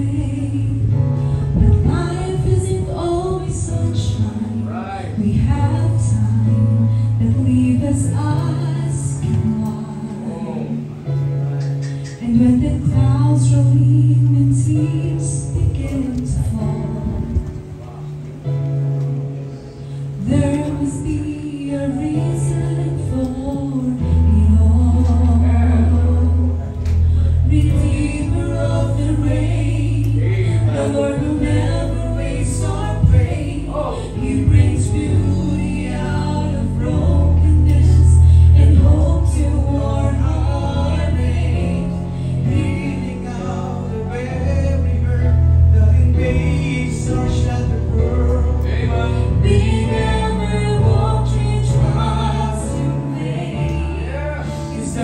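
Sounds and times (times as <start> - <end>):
woman singing gospel: 0.0 - 10.9, 12.2 - 17.6, 20.2 - 44.7, 45.8 - 54.1
instrumental accompaniment low notes: 0.0 - 55.0.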